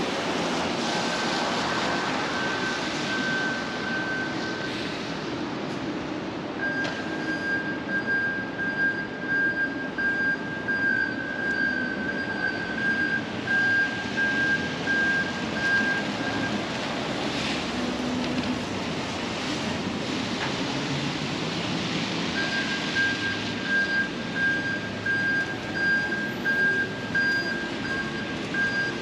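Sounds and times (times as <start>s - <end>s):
rain on a street: 0.0s - 29.0s.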